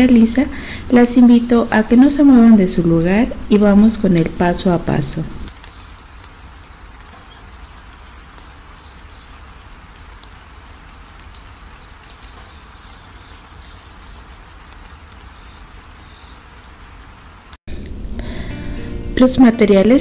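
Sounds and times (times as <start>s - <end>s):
fountain water trickling: 0.0s - 17.6s.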